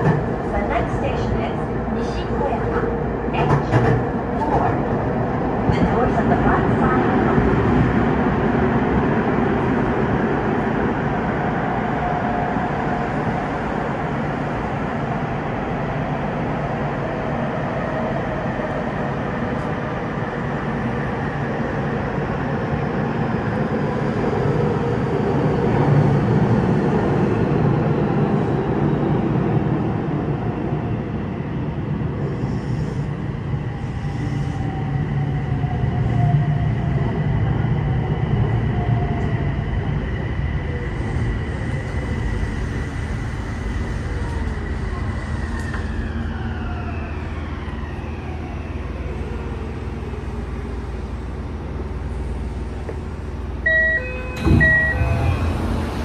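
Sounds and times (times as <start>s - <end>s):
train wheels and motors rumbling: 0.0s - 22.3s, 32.2s - 56.0s.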